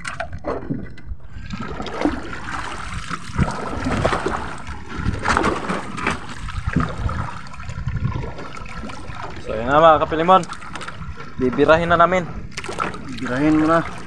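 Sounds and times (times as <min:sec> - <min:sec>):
water splashing and lapping: 0:00.0 - 0:14.0.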